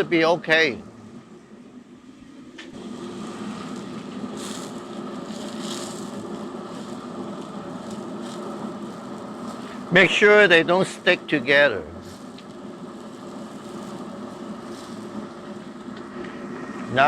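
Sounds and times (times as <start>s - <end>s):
low hum: 0.0s - 17.0s
pot boiling with steady rushing: 0.0s - 17.0s.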